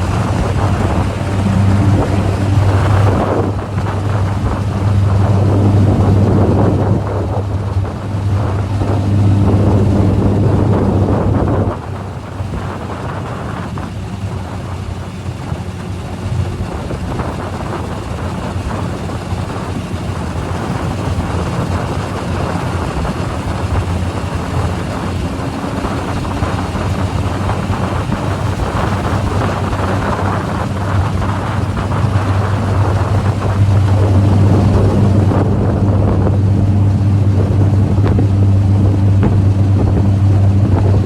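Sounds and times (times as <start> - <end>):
outboard motor humming: 0.0 - 41.0
wind buffeting microphone: 0.0 - 41.0.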